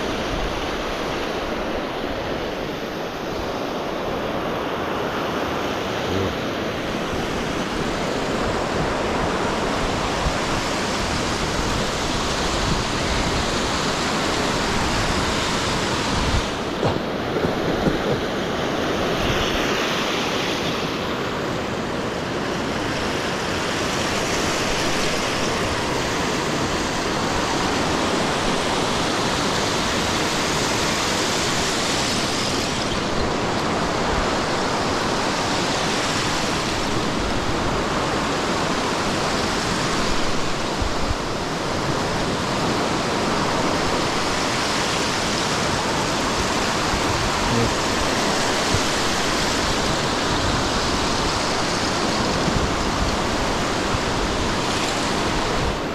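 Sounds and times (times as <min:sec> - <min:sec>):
surf rushing: 0:00.0 - 0:55.9
wind: 0:00.0 - 0:55.9.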